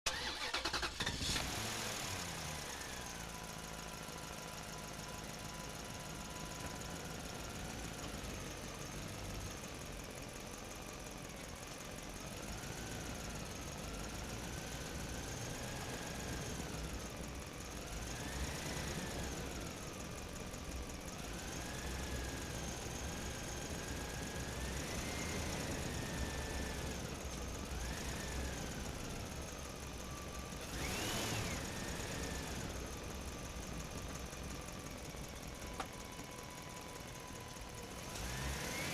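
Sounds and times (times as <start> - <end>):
engine running: 0.1 - 38.9.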